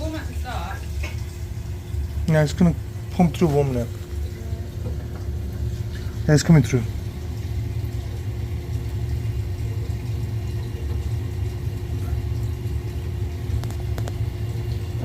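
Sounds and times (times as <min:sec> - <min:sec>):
boiler rumble and hum: 0:00.0 - 0:15.0.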